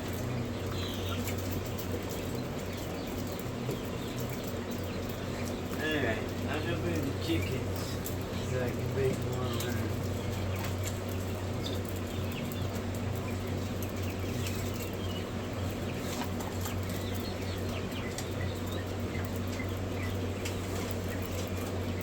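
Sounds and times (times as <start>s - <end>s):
chicks peeping: 0.0s - 22.0s
steady low hum: 0.0s - 22.0s.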